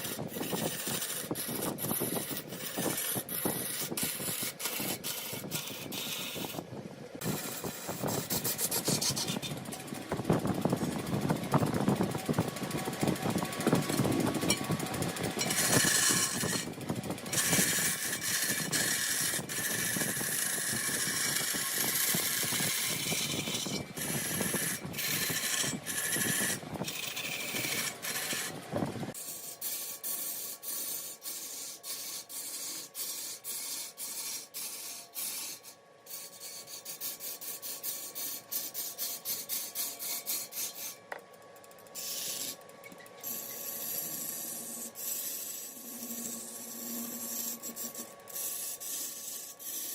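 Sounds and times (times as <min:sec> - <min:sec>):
wood lathe scraping: 0:00.0 - 0:49.9.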